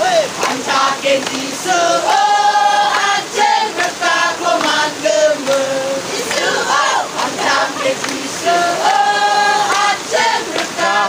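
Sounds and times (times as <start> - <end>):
choir singing: 0.4 - 11.0.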